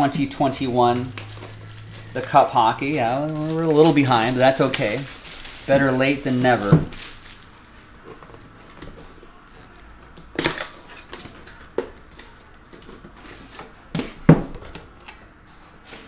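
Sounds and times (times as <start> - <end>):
cardboard packaging shifting: 0.0 - 14.2.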